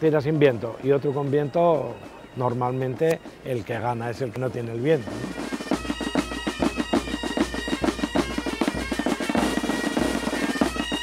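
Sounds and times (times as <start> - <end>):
driving drum beat: 0.0 - 11.0
held instrument notes: 0.0 - 11.0.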